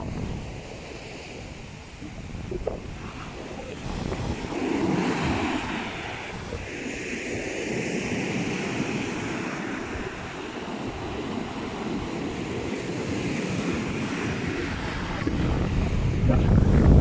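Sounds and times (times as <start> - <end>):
sea surf breaking: 0.0 - 17.0
wind buffeting microphone: 0.0 - 17.0.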